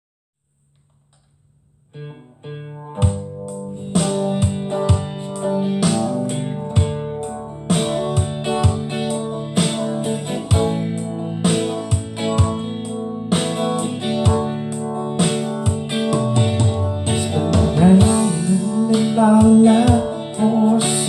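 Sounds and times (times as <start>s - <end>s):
steady beat: 3.0s - 21.0s.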